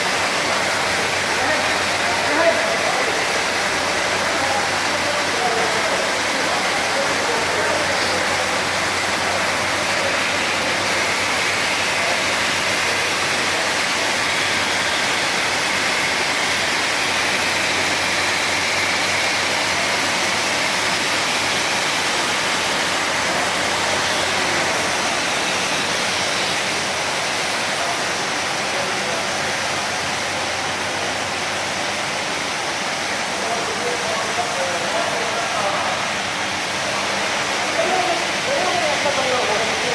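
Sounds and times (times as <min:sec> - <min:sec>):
carpet washing machine running: 0:00.0 - 0:39.9
water spray rushing: 0:00.0 - 0:39.9.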